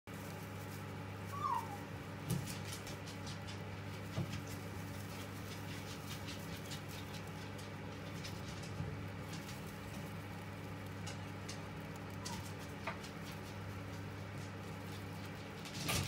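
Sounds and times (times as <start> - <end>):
hamsters rustling in straw: 0.1 - 16.0.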